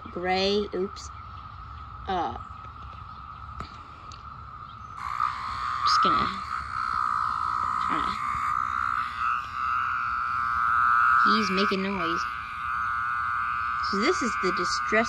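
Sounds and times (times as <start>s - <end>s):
cicada distress buzz: 0.0s - 15.0s.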